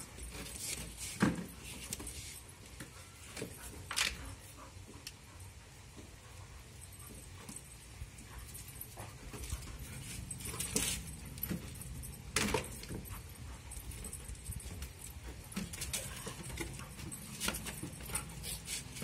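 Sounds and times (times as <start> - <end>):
puppy scuffling: 0.0 - 5.0, 6.8 - 19.0
chain collar jangling: 0.0 - 5.6, 6.2 - 19.0.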